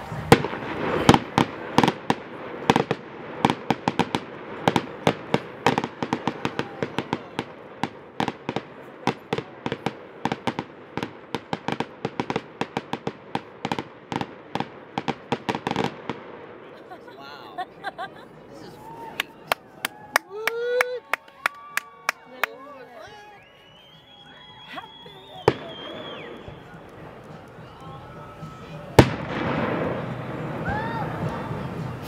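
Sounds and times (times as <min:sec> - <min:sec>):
fireworks bangs: 0:00.0 - 0:20.0, 0:23.5 - 0:32.0.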